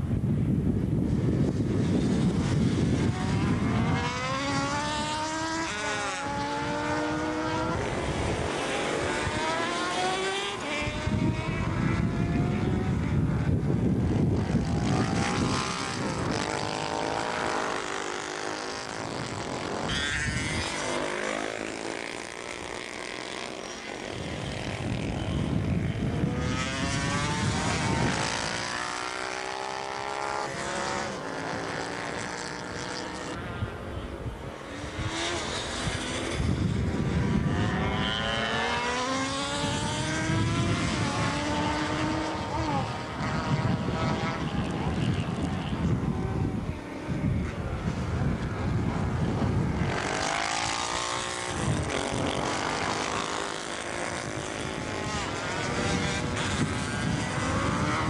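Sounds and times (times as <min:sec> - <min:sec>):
motorcycles revving through gears: 0:01.1 - 0:33.4, 0:34.6 - 0:58.0.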